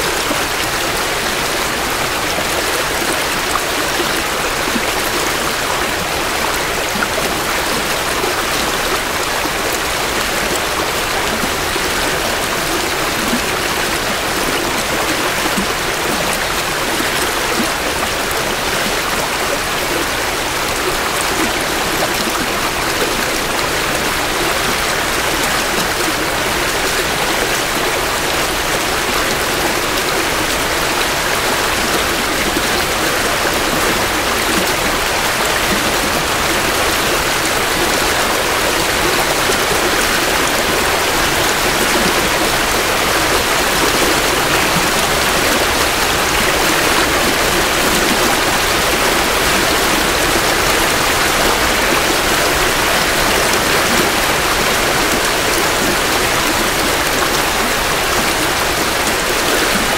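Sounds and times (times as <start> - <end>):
creek water over rocks: 0.0 - 59.9.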